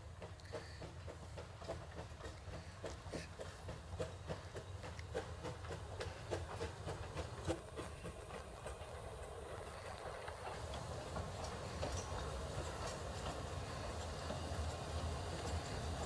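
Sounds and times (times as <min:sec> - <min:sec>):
rhythmic clicking of wheels: 0:00.0 - 0:16.0
steam train running past: 0:00.0 - 0:16.0.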